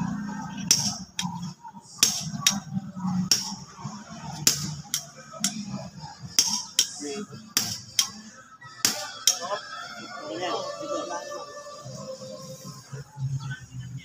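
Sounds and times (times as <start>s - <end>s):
faint low voices: 0.0s - 14.0s.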